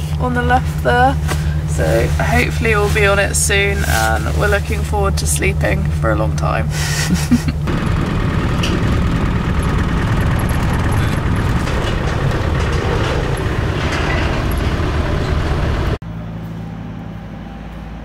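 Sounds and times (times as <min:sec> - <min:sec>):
road rumble: 0:00.0 - 0:17.7
car engine drone: 0:00.0 - 0:18.0
low hum: 0:00.0 - 0:18.0.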